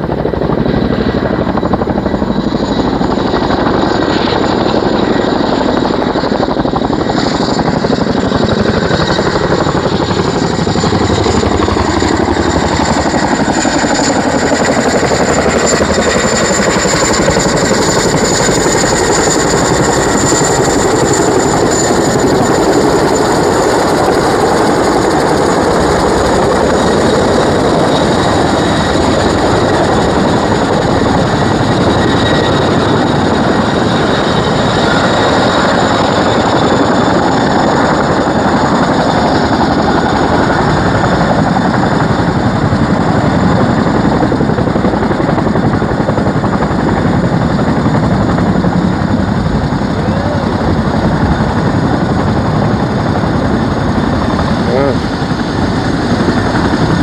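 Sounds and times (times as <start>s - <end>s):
helicopter rotor beat: 0.0s - 57.0s
high turbine whine: 0.0s - 57.0s.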